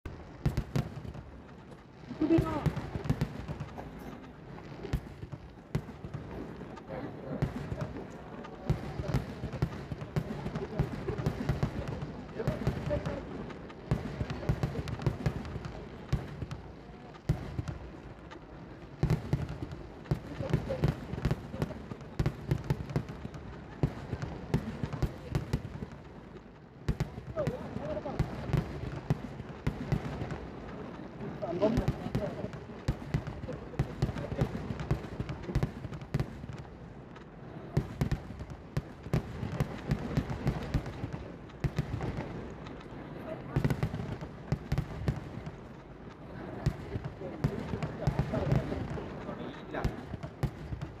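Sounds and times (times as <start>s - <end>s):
fireworks bangs and cracks: 0.1s - 51.0s.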